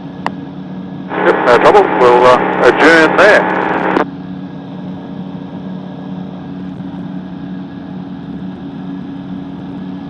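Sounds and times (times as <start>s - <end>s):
microlight engine and propeller drone: 0.0s - 10.0s.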